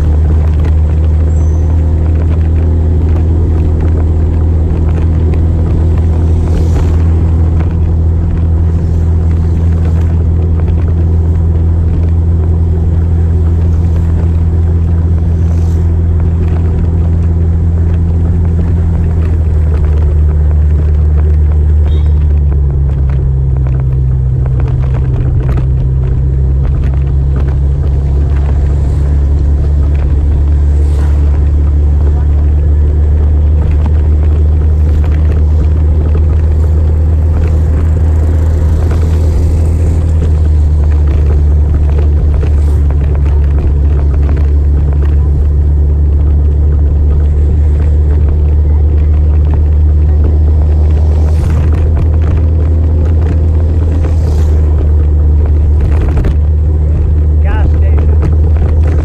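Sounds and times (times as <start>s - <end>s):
motorcycle engine drone: 0.0s - 59.0s.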